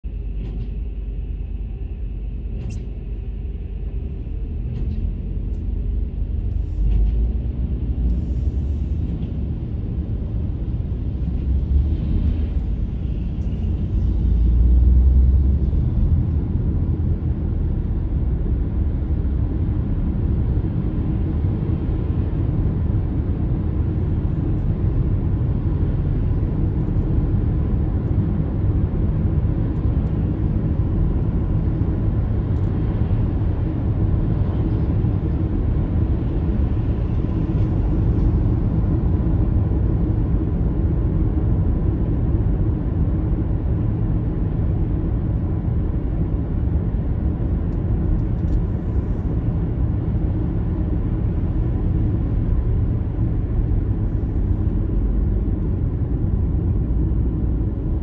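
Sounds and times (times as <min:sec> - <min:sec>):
car engine and tyres on wet road: 0:03.7 - 0:19.6, 0:22.8 - 0:57.9.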